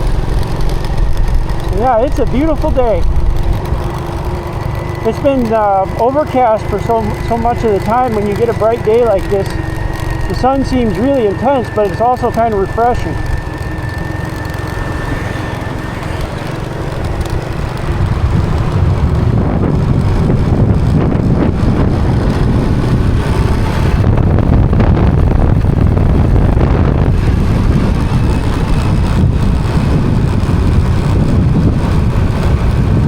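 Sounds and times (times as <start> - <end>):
motorcycle engine running: 0.0 - 33.0
wind rumble on microphone: 0.0 - 33.0.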